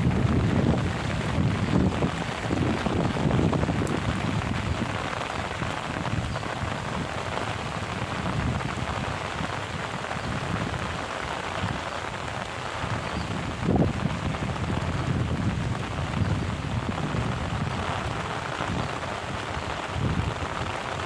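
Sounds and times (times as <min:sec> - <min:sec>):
heavy rain falling: 0:00.0 - 0:21.0
wind buffeting microphone: 0:00.0 - 0:21.0.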